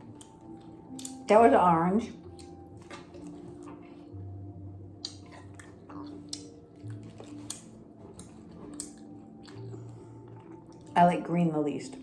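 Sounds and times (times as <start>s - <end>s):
candy being chewed: 0.0s - 1.3s, 2.0s - 11.0s.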